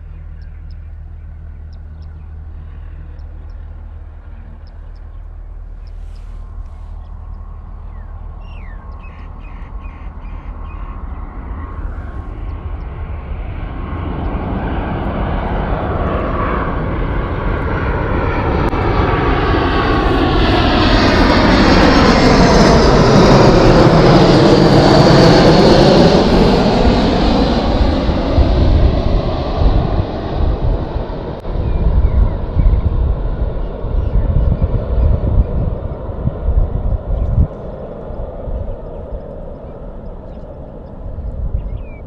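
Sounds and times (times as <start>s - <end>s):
jet airliner engines approaching: 0.0s - 42.0s.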